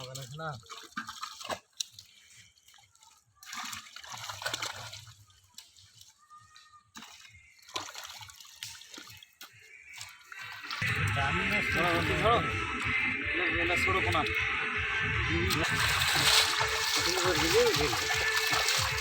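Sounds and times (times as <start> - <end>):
pond water splashing and dripping: 0.0 - 12.4, 15.5 - 19.0.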